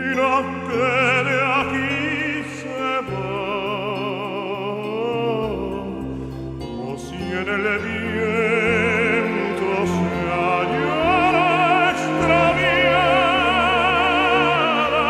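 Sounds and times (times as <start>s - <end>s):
instrumental accompaniment: 0.0s - 15.0s
operatic voice singing: 0.0s - 15.0s.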